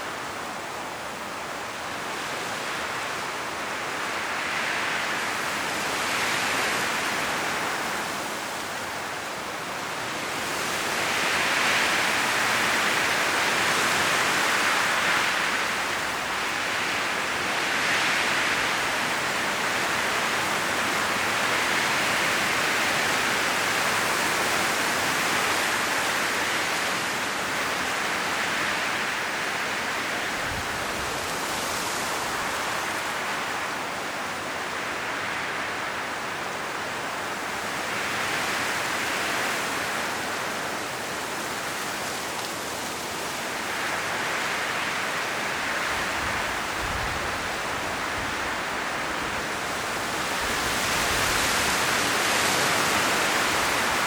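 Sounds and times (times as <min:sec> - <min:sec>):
strong wind through trees: 0:00.0 - 0:54.0
leaves rustling: 0:01.2 - 0:54.0.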